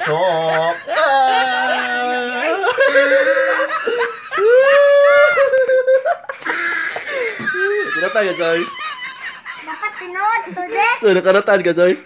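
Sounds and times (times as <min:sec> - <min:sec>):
loud high-pitched laughter: 0:00.0 - 0:10.6.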